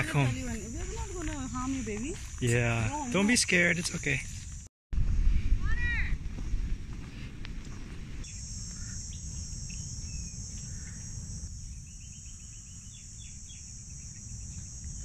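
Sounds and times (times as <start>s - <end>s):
high-pitched insect chorus: 0.0s - 4.7s, 7.6s - 15.0s.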